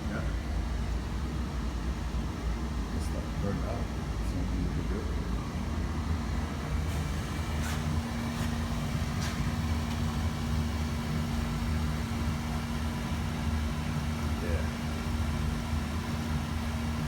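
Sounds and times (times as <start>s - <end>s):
boiler burner rumbling: 0.0s - 17.0s
steady hum: 0.0s - 17.0s.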